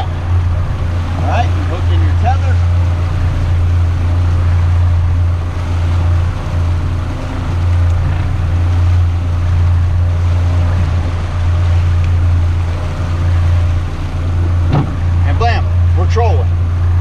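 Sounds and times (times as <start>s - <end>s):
outboard motor running: 0.0s - 17.0s
water and wind noise: 0.0s - 17.0s.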